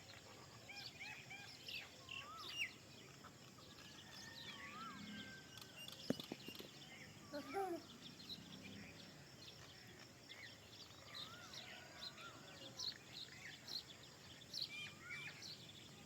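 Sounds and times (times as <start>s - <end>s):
chorus of small birds chirping: 0.0s - 16.0s.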